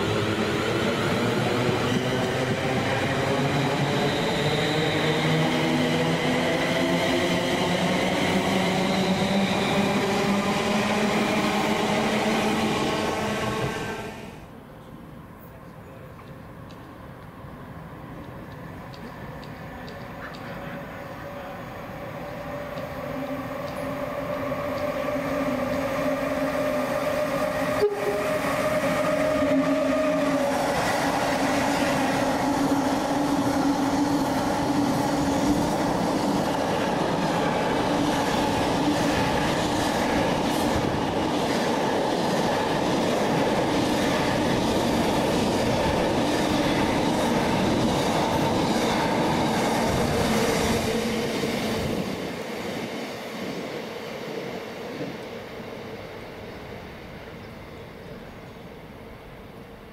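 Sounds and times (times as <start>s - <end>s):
train rushing and clattering: 0.0s - 59.9s.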